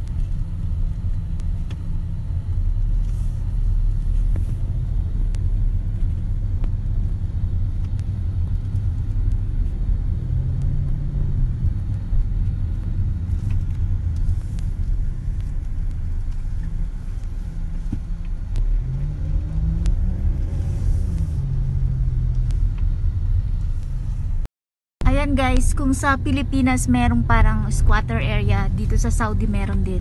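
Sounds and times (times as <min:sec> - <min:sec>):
car engine and road noise: 0:00.0 - 0:30.0
faint engine hum: 0:00.0 - 0:30.0.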